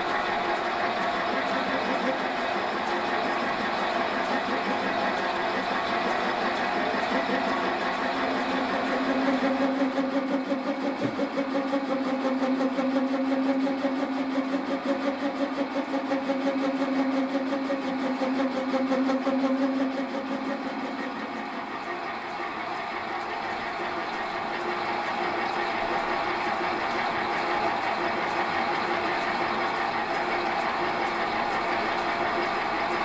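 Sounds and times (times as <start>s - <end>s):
lathe humming: 0.0s - 33.0s.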